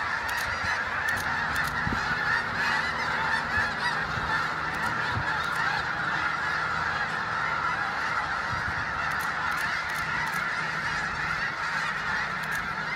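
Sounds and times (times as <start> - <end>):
flock of geese honking: 0.0 - 12.9.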